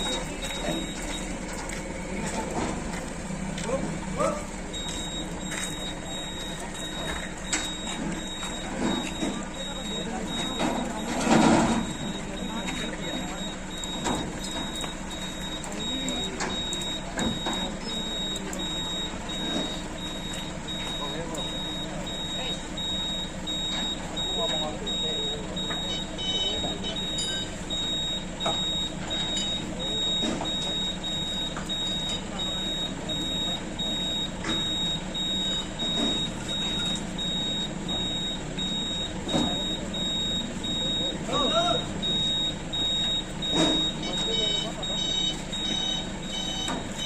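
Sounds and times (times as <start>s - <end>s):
faint background voices: 0.0s - 47.0s
truck reversing alarm: 0.0s - 47.0s.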